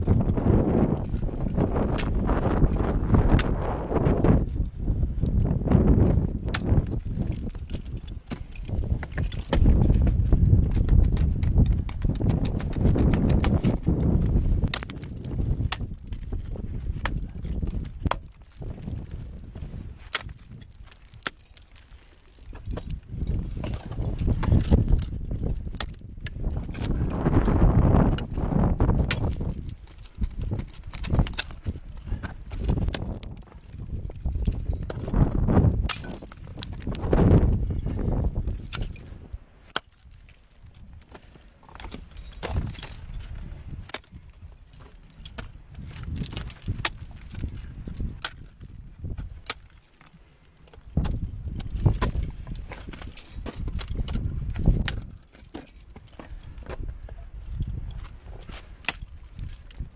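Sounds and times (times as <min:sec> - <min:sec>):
ice axes striking ice: 0:00.4 - 0:04.4, 0:05.4 - 0:19.3, 0:20.0 - 0:37.5, 0:39.6 - 0:50.0, 0:50.7 - 0:56.8, 0:58.8 - 0:59.8.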